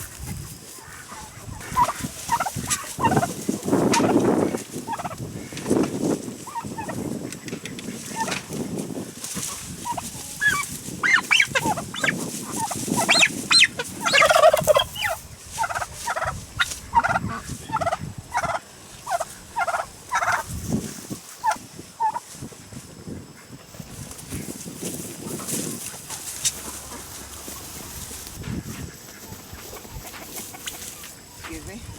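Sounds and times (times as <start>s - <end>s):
turkeys calling: 0.7s - 22.4s, 23.3s - 31.8s.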